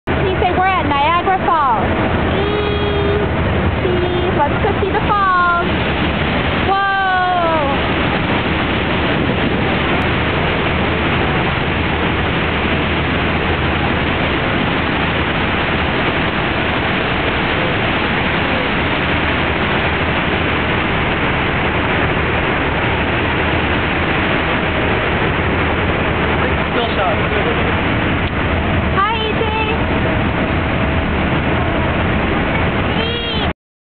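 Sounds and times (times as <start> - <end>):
waterfall roaring: 0.0 - 33.5.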